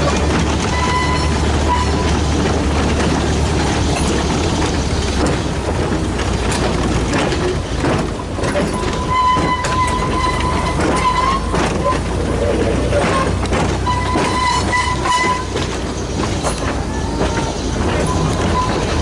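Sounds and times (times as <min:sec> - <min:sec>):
model train clattering on track: 0:00.0 - 0:19.0.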